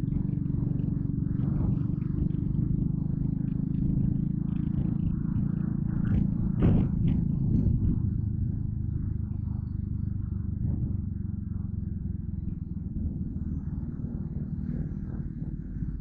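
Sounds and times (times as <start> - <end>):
motorcycle engine droning: 0.0 - 16.0.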